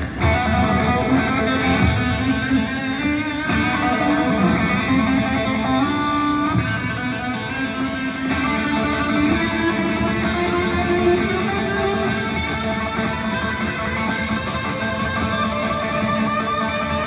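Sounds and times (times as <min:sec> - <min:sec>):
electric guitar sustained notes: 0:00.0 - 0:17.0
live rock band: 0:00.0 - 0:17.0.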